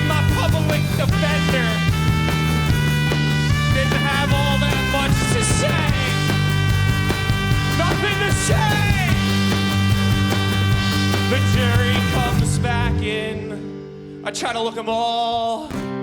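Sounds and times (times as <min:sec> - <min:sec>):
bass notes: 0:00.0 - 0:13.8
rock band playing instrumental: 0:00.0 - 0:13.9.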